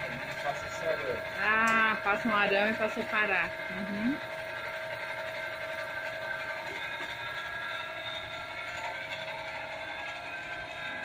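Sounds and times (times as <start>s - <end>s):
machinery whine over rough hum: 0.0s - 11.0s.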